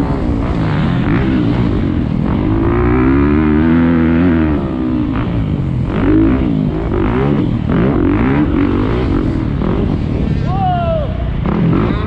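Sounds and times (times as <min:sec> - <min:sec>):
motocross bike engine revving: 0:00.0 - 0:10.6, 0:11.3 - 0:12.0.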